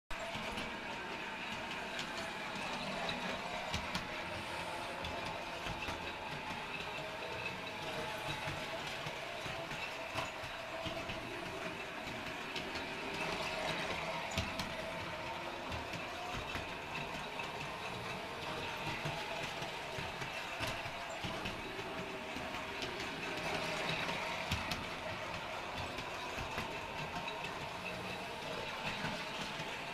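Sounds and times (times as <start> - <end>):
wheels clicking on rails: 0.1 - 29.9
toy train motor gear whine: 0.2 - 29.9.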